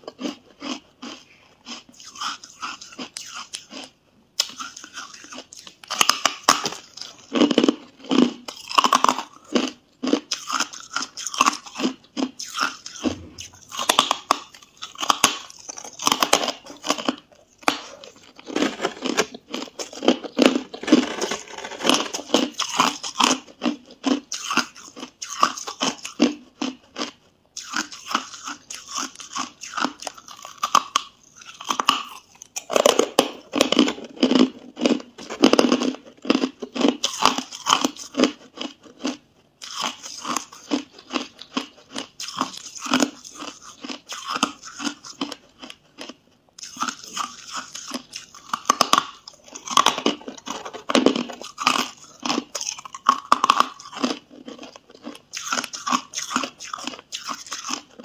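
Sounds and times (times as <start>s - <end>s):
ice being chewed and crunched: 0.0s - 58.0s.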